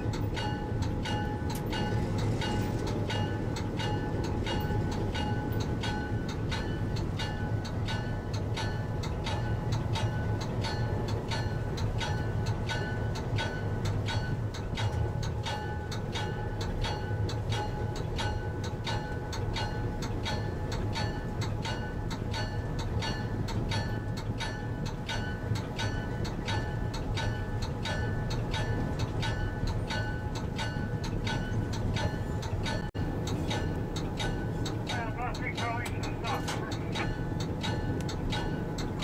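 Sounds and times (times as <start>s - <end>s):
locomotive bell ringing: 0.0s - 39.0s
locomotive engine hum: 0.0s - 39.0s.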